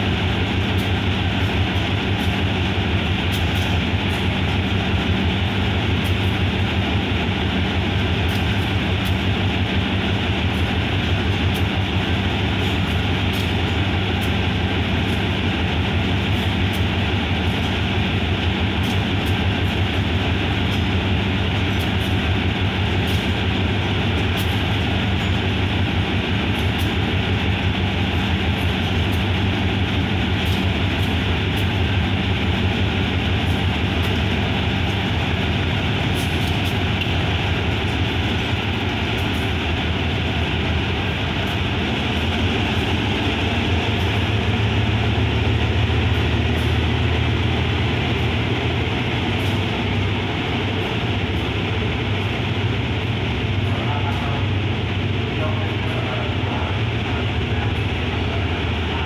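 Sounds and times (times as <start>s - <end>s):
diesel locomotive idling: 0.0s - 59.0s.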